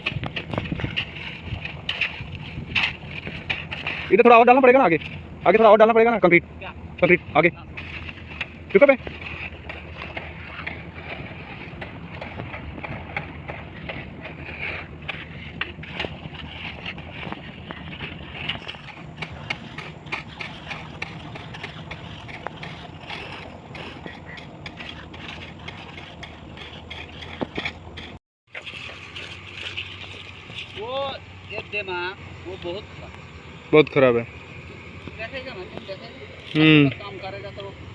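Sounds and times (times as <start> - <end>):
construction machine engine hum: 0.0 - 37.9
knocks and scrapes of concrete work: 0.0 - 37.9.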